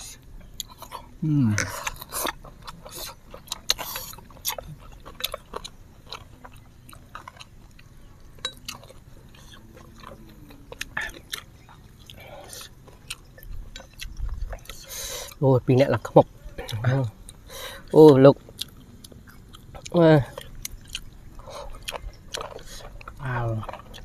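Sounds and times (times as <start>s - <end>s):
wet chewing and slurping: 0.0s - 24.0s.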